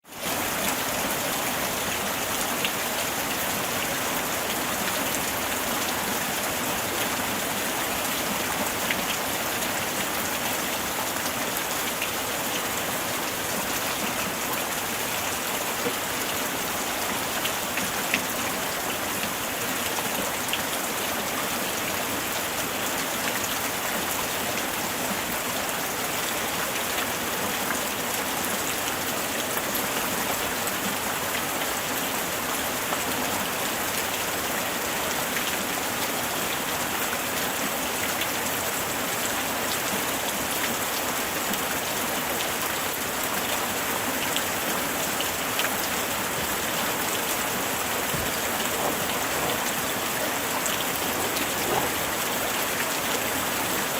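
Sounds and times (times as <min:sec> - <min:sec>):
light rain falling: 0:00.0 - 0:53.9.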